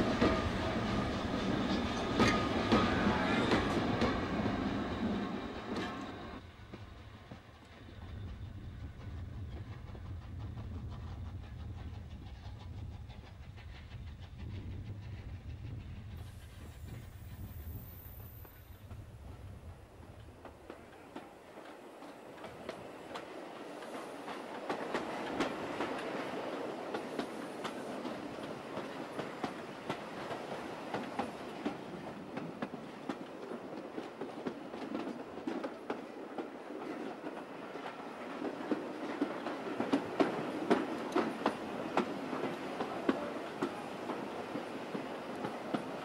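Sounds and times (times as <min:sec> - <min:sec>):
train wheels clattering on rails: 0:00.0 - 0:46.0.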